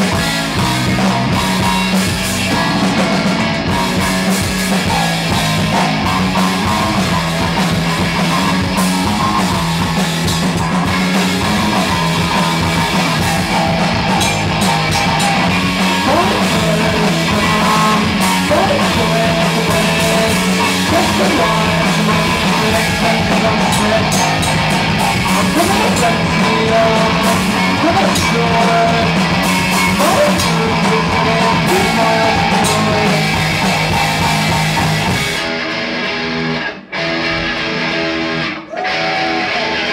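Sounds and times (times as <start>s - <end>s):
rock band playing loud: 0.0s - 39.9s.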